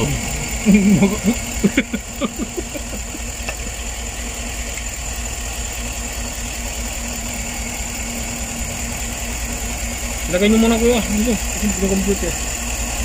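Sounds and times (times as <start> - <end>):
engine idling roughly: 0.0 - 13.0.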